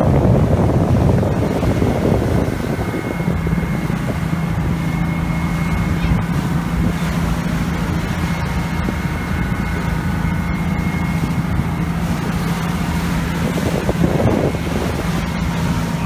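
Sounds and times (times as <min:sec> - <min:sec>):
boat engine droning: 0:00.0 - 0:16.0
water wash: 0:00.0 - 0:16.0
wind noise: 0:00.0 - 0:16.0.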